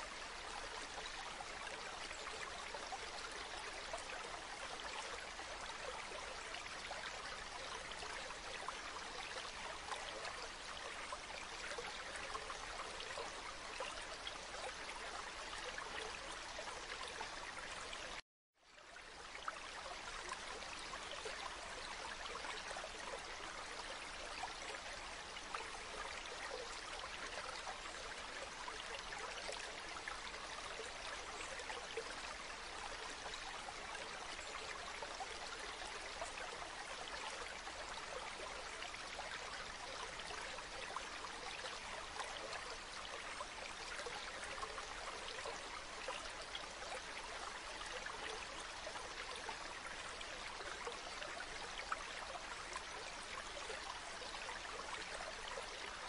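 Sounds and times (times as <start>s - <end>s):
stream water over pebbles: 0.0s - 56.0s.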